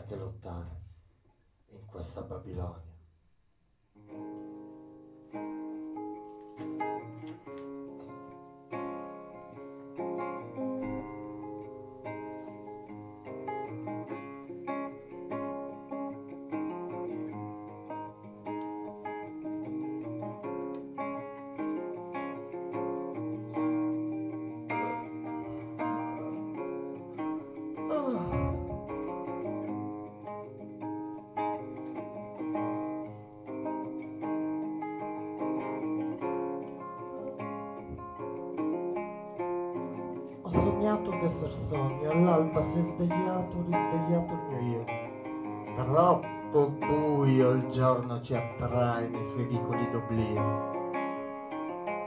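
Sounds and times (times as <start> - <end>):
fingerstyle acoustic guitar: 3.9 - 52.0.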